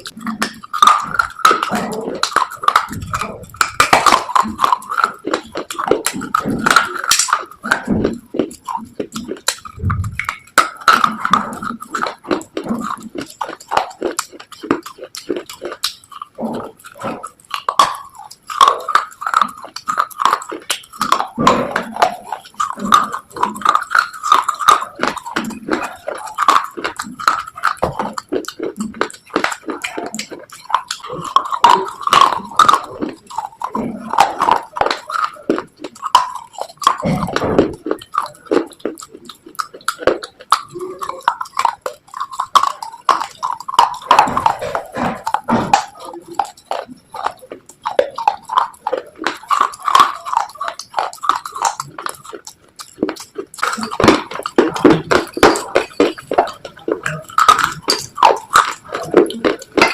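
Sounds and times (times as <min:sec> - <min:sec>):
person chewing crunchy slate: 0:00.0 - 0:59.9.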